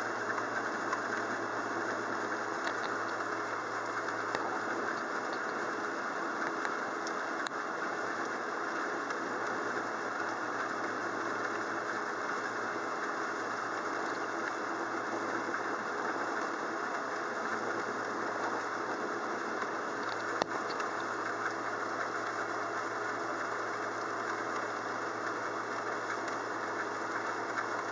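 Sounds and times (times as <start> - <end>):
rain falling steadily: 0.0 - 27.9.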